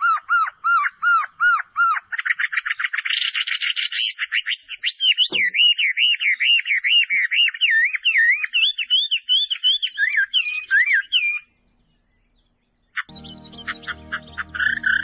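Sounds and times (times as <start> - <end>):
songbird whistling song: 0.0 - 15.0.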